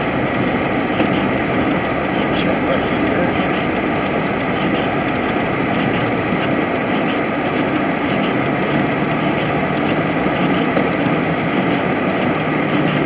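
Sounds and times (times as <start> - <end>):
car engine running: 0.0 - 13.0
tyre and road noise: 0.0 - 13.0.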